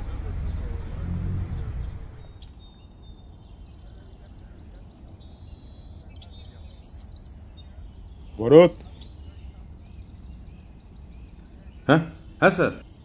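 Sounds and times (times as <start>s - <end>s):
birds chirping and twittering: 0.0s - 13.0s
low steady background rumble: 0.0s - 13.0s.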